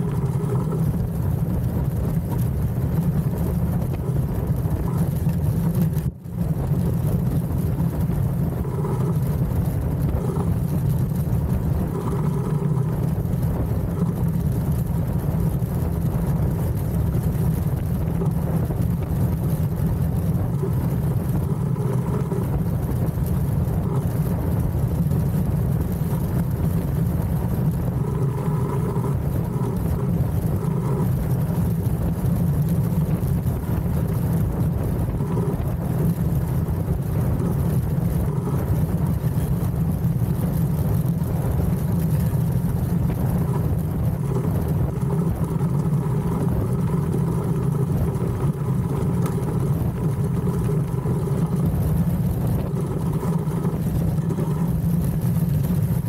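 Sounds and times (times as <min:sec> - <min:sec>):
runners rumbling on ice: 0:00.0 - 0:56.0
wind noise: 0:00.0 - 0:56.0.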